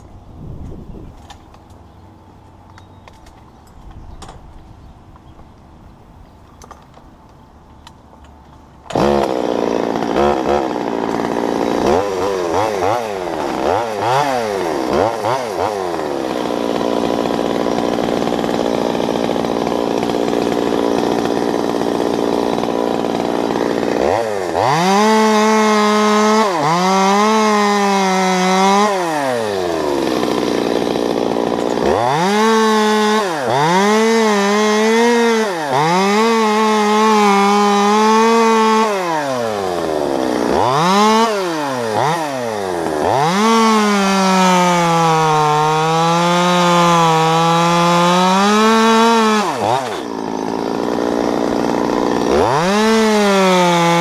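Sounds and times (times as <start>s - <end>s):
chainsaw revving and cutting wood: 8.2s - 54.0s
chainsaw starting and idling: 8.2s - 54.0s.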